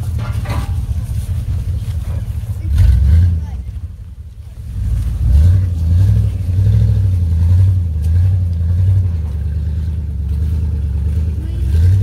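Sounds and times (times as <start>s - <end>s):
pickup truck engine rumbling: 0.0s - 12.0s.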